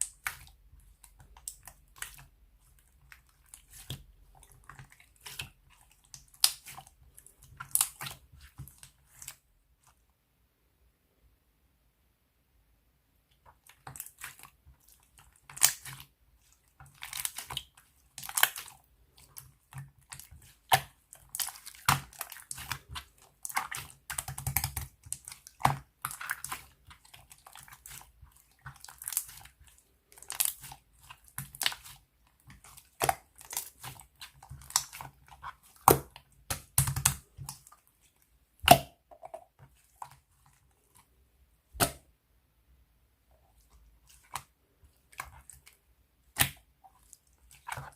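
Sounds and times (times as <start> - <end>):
hands squishing slime: 0.0 - 10.0, 13.3 - 42.1, 43.3 - 47.9.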